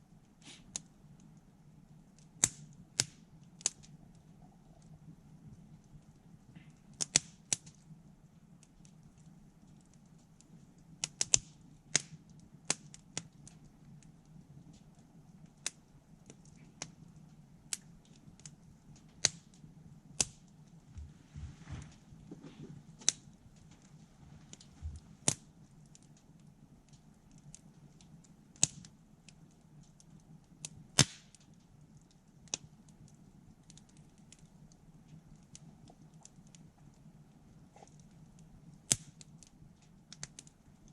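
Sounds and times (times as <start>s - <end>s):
campfire crackling: 0.0s - 40.9s
low steady hum: 0.0s - 40.9s
sharp pops of burning wood: 0.4s - 21.1s, 21.7s - 40.9s.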